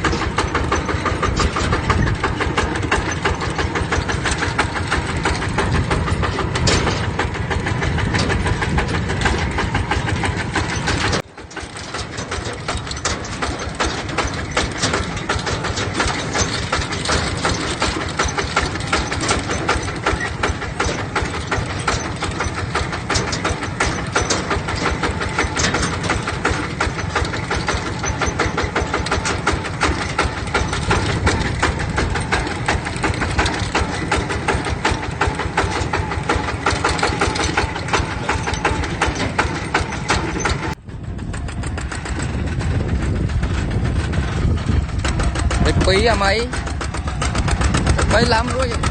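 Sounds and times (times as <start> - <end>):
diesel tractor engine running: 0.0 - 48.9.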